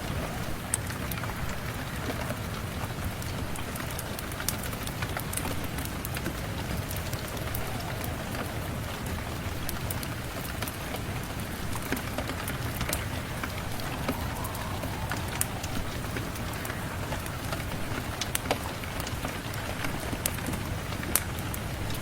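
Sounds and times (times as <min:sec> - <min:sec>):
steady rain hiss: 0:00.0 - 0:22.0
wood fire crackling and popping: 0:00.0 - 0:22.0.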